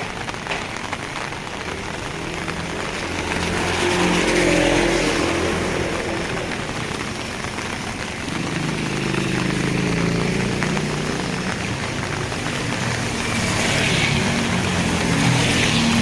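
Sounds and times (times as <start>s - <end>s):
rainfall hiss: 0.0s - 16.0s
vehicles passing in rain: 0.0s - 16.0s.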